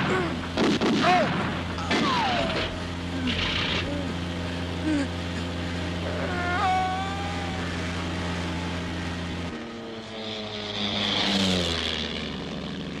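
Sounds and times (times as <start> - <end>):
aircraft rush with falling pitch: 0.0 - 13.0
propeller engine droning: 0.0 - 13.0.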